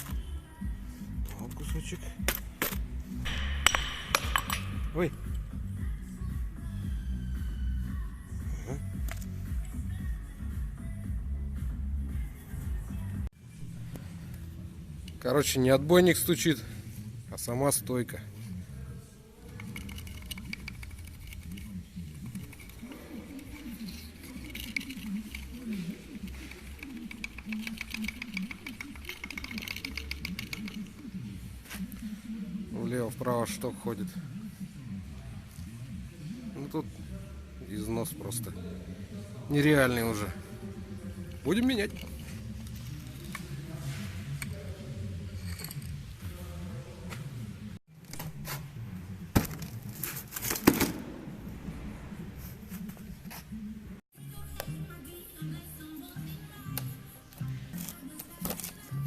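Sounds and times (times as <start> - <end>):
quiet background music: 0.0 - 59.0.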